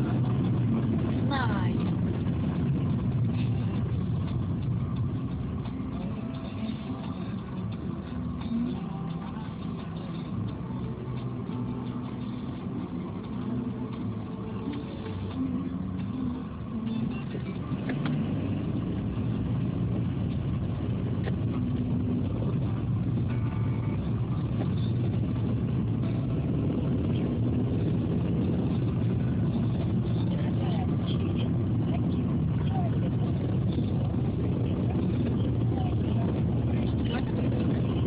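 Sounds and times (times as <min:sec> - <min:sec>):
car engine rumble: 0:00.0 - 0:38.0
road noise inside car: 0:00.0 - 0:38.0.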